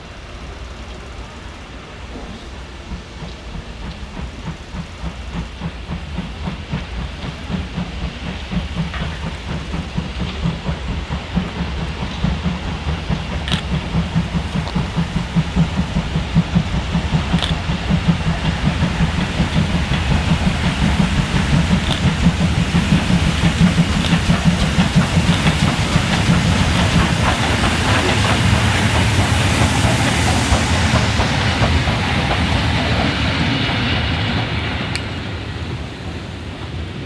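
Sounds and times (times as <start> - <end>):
train passing on rails: 0.0 - 37.0.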